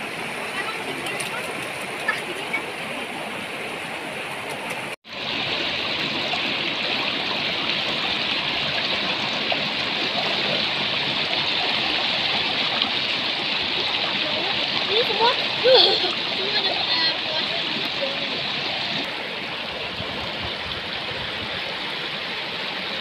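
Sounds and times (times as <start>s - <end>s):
mountain river rushing: 0.0s - 23.0s.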